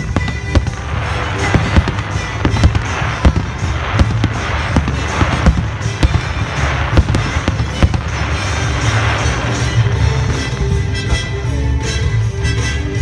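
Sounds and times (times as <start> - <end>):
firework crackling hiss: 0.0 - 11.1
firework shells bursting: 0.0 - 11.5.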